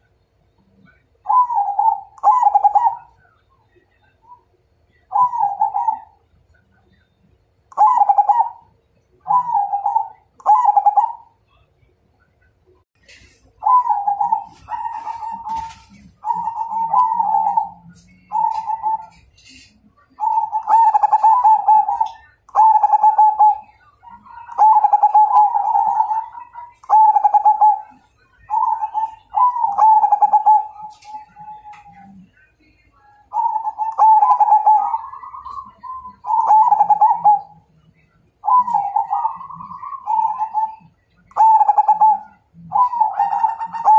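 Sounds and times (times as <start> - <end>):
dove cooing: 0.8 - 3.4, 5.1 - 6.2, 7.7 - 11.4, 13.2 - 32.4, 33.3 - 43.9.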